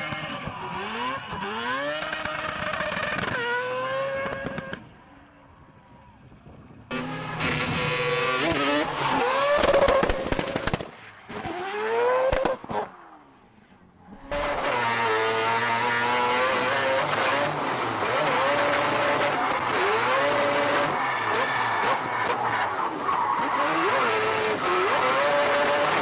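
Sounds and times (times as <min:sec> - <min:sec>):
rotary engine revving hard: 0:00.0 - 0:04.6, 0:06.9 - 0:12.9, 0:14.2 - 0:26.0.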